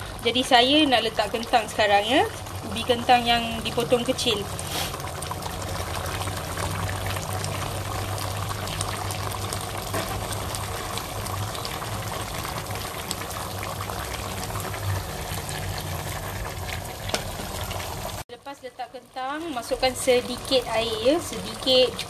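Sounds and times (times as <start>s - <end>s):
curry bubbling in a pot: 0.0s - 18.2s, 19.0s - 22.0s.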